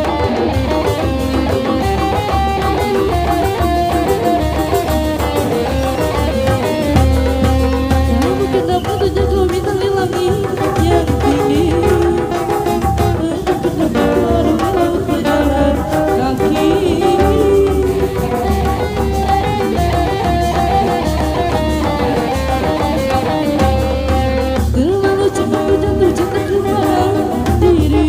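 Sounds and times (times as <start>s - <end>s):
melodic lead with drums: 0.0s - 28.0s
person singing: 0.0s - 28.0s.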